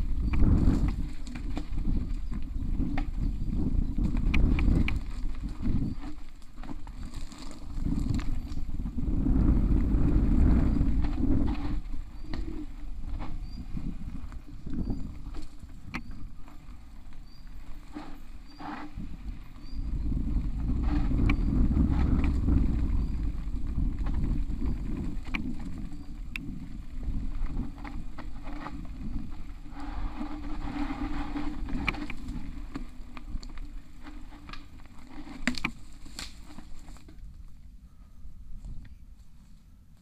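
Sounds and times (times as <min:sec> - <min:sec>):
bike knocking and rattling: 0:00.0 - 0:37.8
rumble of wind and tyres: 0:00.0 - 0:40.0.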